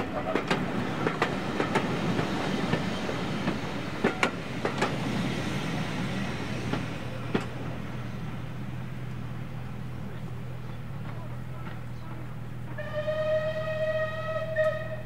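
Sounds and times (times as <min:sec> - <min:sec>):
wheels clacking over rail joints: 0:00.0 - 0:13.0.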